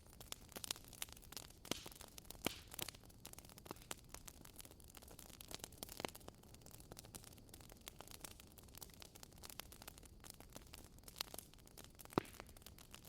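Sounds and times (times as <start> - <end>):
wood fire pops and snaps: 0.0 - 13.0.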